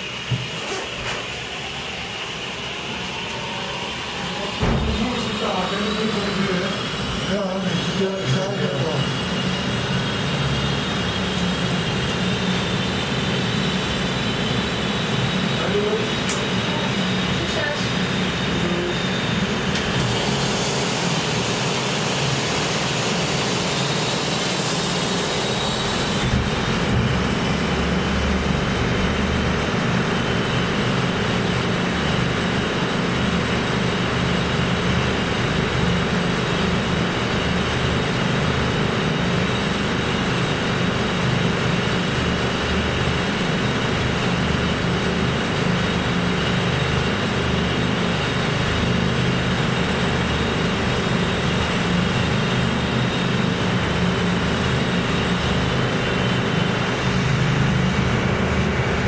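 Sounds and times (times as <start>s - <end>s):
helicopter rotor and turbine whine: 0.0s - 59.0s.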